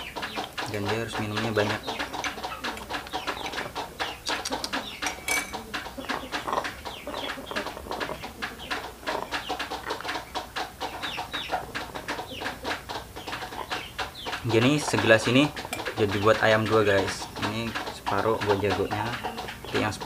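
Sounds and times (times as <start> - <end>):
rooster clucking: 0.0 - 20.0.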